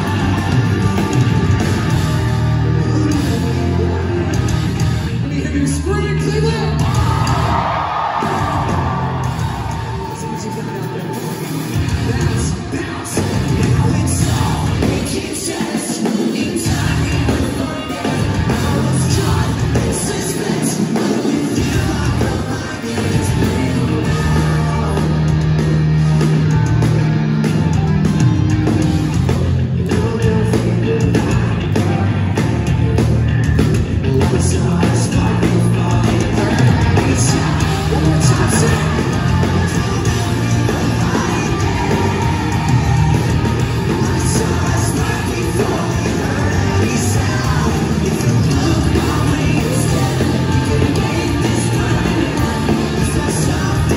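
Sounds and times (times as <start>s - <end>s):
bass guitar: 0.0s - 15.6s, 16.4s - 53.9s
lead singer vocals: 0.0s - 26.8s, 29.8s - 33.1s, 34.0s - 53.9s
drums: 0.0s - 53.9s
electric guitars: 0.0s - 53.9s.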